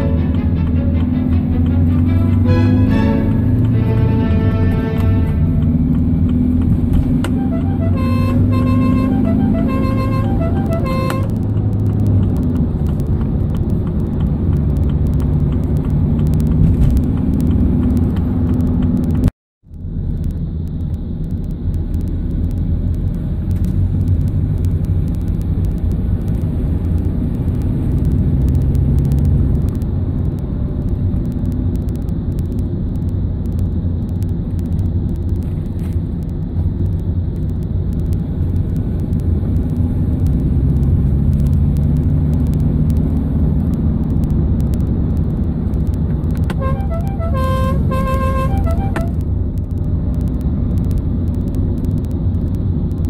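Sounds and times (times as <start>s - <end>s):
van engine and road noise: 0.0s - 53.0s.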